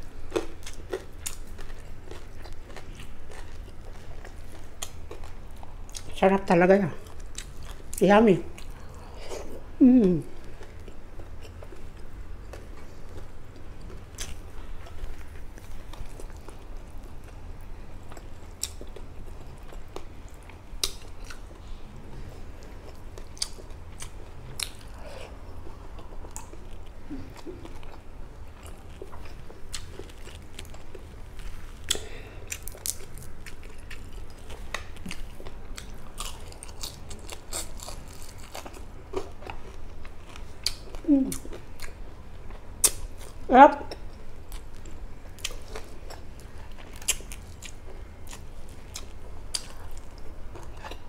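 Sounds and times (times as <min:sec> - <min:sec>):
chewing and crunching crispy food: 0:00.0 - 0:51.0.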